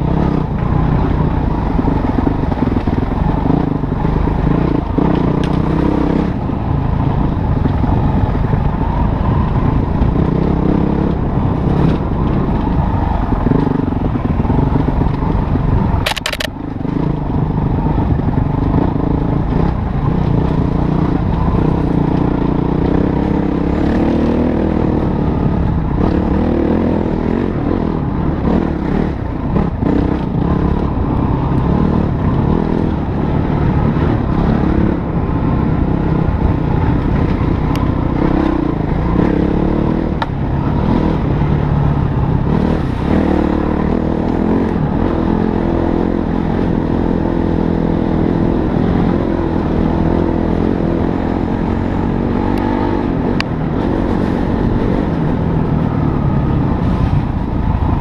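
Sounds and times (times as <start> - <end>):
engine crackle: 0.0 - 58.0
motorcycle engine revving: 0.0 - 58.0.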